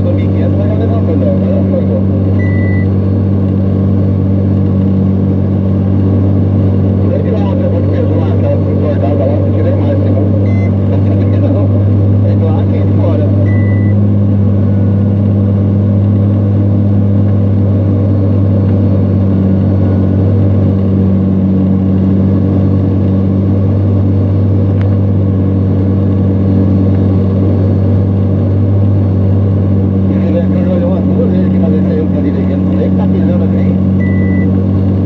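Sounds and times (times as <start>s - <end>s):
truck diesel engine droning: 0.0s - 35.0s.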